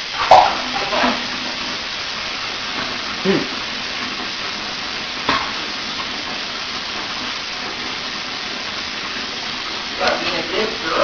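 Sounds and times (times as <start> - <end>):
water splashing onto tiled floor: 0.0 - 11.0.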